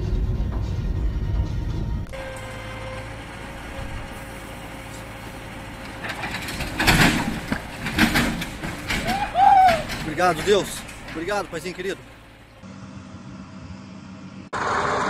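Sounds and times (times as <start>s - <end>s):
truck banging and creaking: 0.0s - 12.6s
truck engine running: 0.0s - 15.0s.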